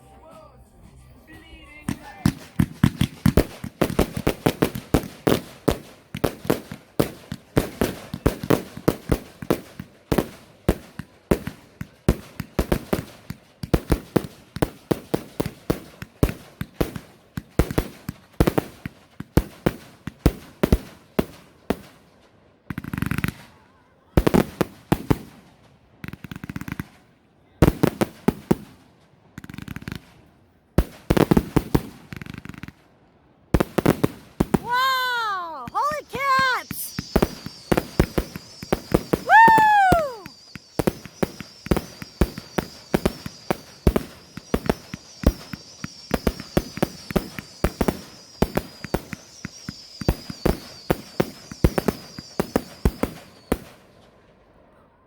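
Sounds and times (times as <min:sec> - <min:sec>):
fireworks hissing and crackling: 0:01.3 - 0:22.1, 0:22.7 - 0:27.1, 0:27.7 - 0:32.8, 0:33.6 - 0:54.0
fireworks cracking and banging: 0:01.7 - 0:22.1, 0:22.7 - 0:23.6, 0:24.2 - 0:27.0, 0:27.6 - 0:32.9, 0:33.6 - 0:54.0.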